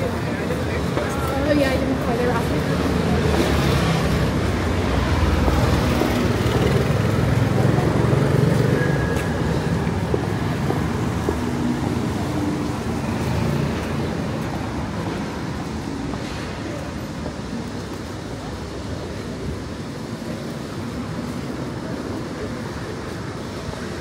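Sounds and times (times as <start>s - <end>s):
vehicles passing: 0.0s - 24.0s.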